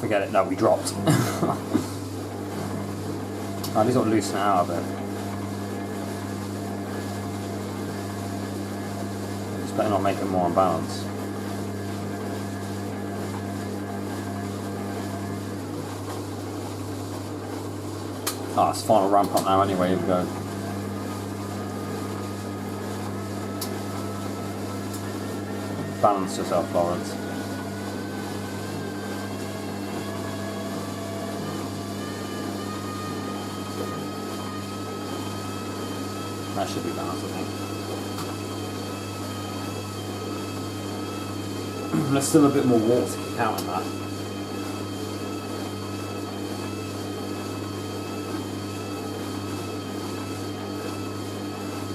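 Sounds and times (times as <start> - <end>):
washing machine spinning hum: 0.0 - 51.9.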